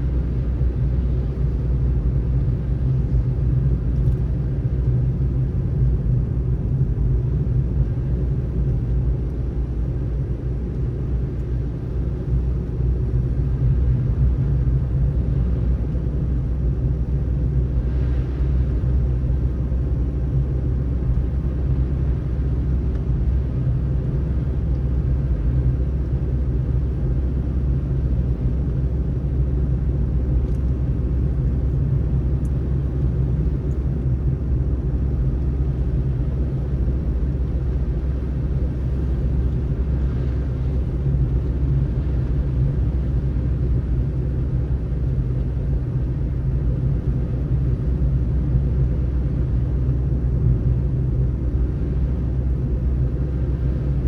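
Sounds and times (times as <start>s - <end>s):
car driving on snowy road: 0.0s - 54.0s.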